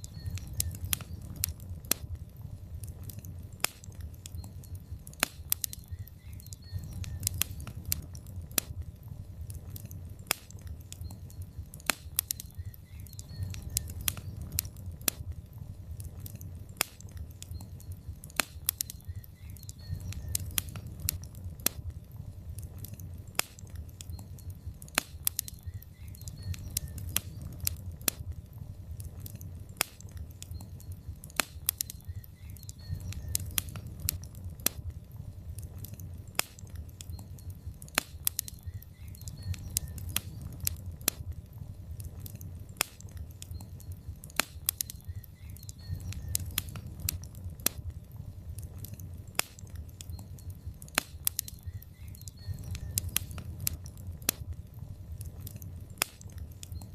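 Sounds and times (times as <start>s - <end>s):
logs crackling in fireplace: 0.0s - 56.9s
low rumble of flames: 0.0s - 56.9s.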